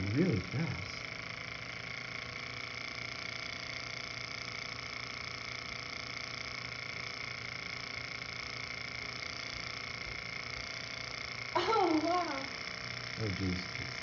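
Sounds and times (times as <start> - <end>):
small engine humming: 0.0 - 14.0.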